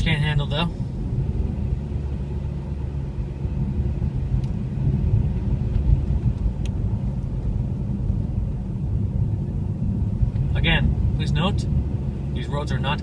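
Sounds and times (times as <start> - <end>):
car driving on snowy road: 0.0 - 13.0.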